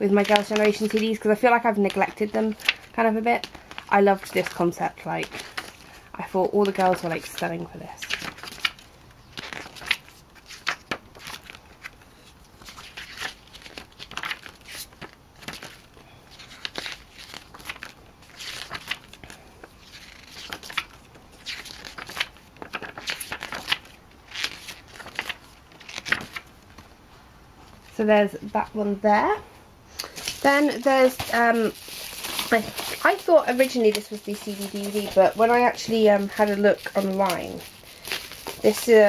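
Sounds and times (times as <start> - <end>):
glossy paper pages rustling: 0.1 - 27.0, 30.0 - 39.0.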